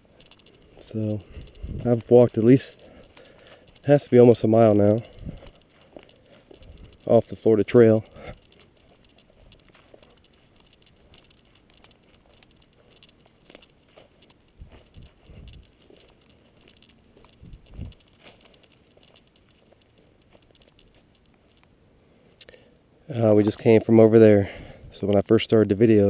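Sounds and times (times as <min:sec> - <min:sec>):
footsteps crunching on trail: 0:00.0 - 0:21.6.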